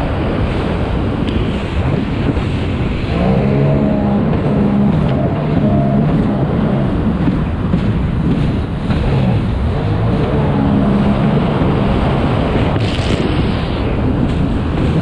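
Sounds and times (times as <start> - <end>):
personal watercraft engine: 0.0 - 15.0
wind noise on microphone: 0.0 - 15.0.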